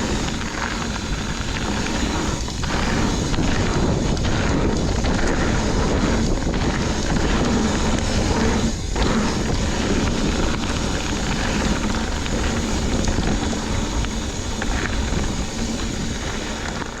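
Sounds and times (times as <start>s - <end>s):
mountain bike rattling on dirt: 0.0s - 17.0s
wind buffeting microphone: 0.0s - 17.0s.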